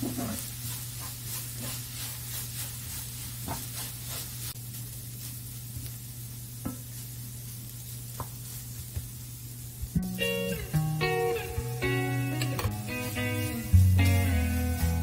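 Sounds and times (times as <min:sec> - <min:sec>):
spatula stirring in a pan: 0:00.0 - 0:10.0, 0:12.4 - 0:15.0
faint sizzle: 0:00.0 - 0:15.0.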